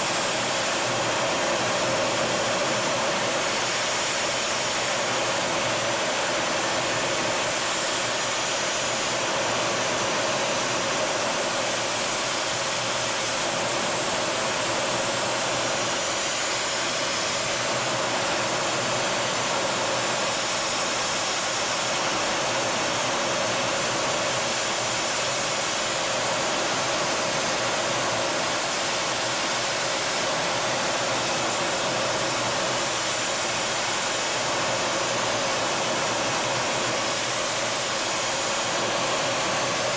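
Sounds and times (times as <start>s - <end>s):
jet cockpit rushing noise: 0.0s - 39.9s.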